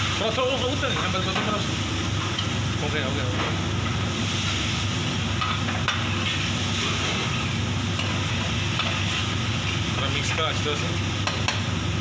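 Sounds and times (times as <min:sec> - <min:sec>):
sauce hissing in a pan: 0:00.0 - 0:12.0
steady low hum: 0:00.0 - 0:12.0.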